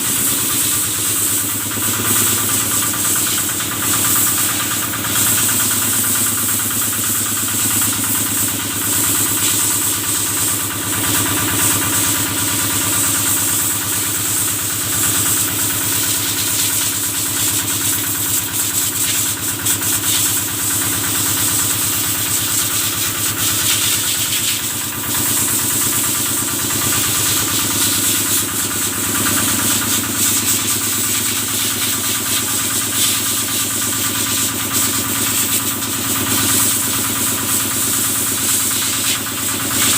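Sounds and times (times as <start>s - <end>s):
sprayer hissing: 0.0s - 39.9s
stationary engine running: 0.0s - 39.9s.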